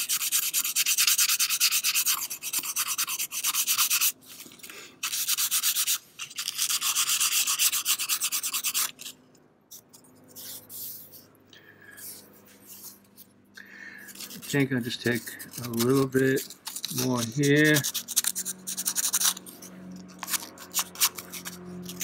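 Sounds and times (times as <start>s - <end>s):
sandpaper scratching strokes: 0.0s - 11.3s, 11.9s - 22.0s.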